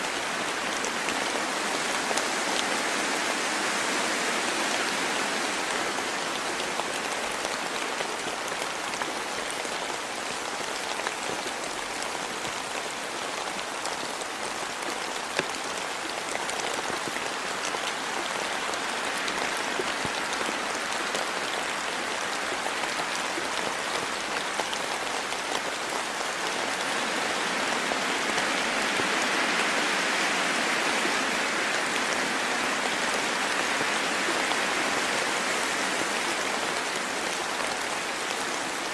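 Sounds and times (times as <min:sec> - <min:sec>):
rain falling in a forest: 0:00.0 - 0:38.9.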